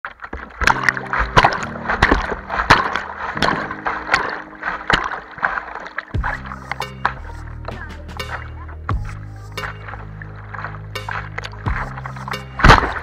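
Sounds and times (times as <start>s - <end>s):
splashing river rapids: 0.2s - 8.6s, 9.6s - 13.0s
music with steady beat and chords: 0.8s - 13.0s.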